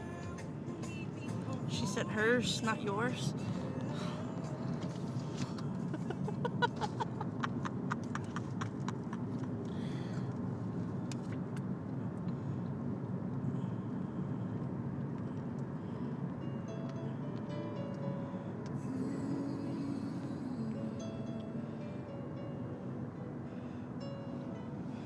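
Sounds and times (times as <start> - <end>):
car cabin road and engine noise: 0.0 - 25.0.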